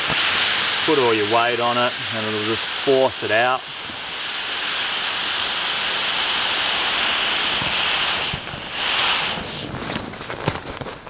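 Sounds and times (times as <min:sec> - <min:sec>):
air hissing from mattress valve: 0:00.0 - 0:10.1.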